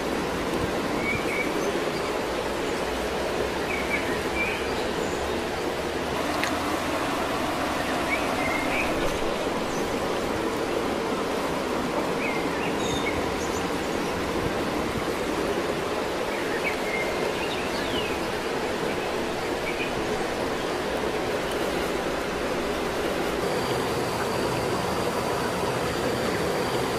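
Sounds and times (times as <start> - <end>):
stream running over rocks: 0.0 - 26.9.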